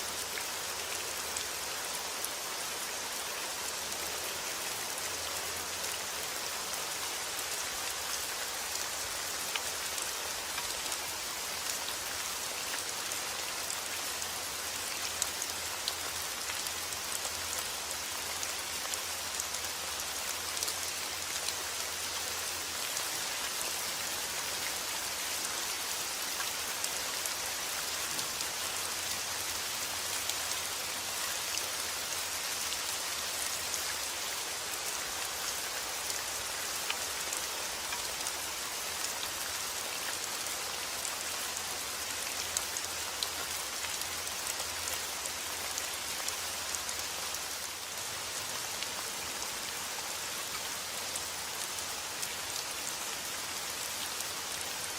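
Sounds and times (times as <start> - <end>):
rain hissing on a surface: 0.0 - 54.9.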